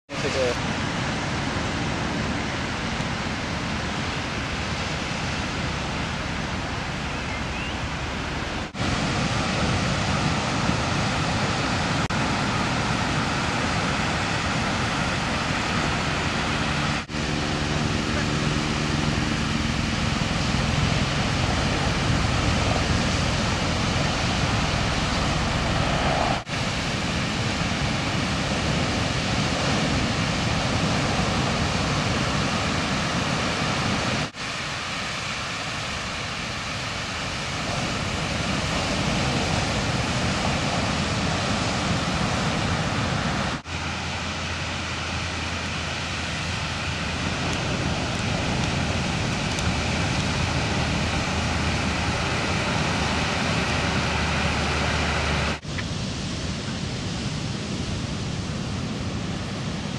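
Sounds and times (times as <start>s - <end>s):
ocean surf breaking: 0.1s - 59.9s
wind noise on microphone: 0.1s - 59.9s.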